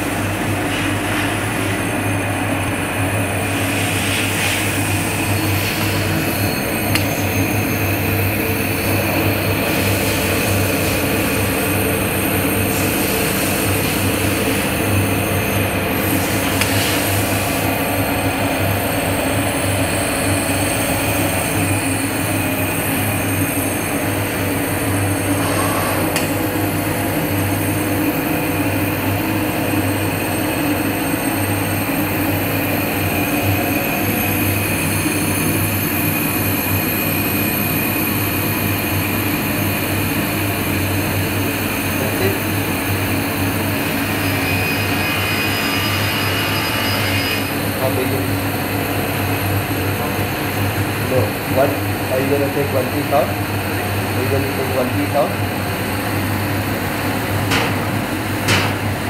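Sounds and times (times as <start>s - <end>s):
laser cutter humming: 4.7s - 59.0s.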